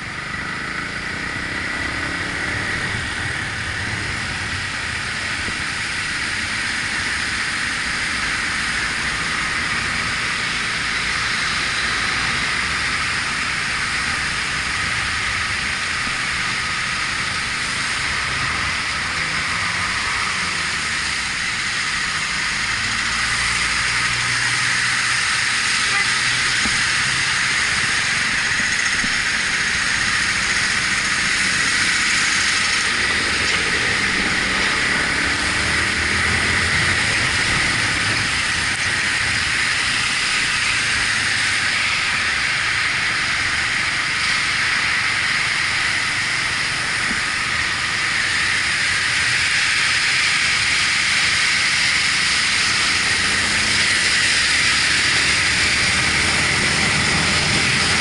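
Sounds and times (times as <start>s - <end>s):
motorcycle engine running: 0.0s - 58.0s
wind and road spray hiss: 0.0s - 58.0s.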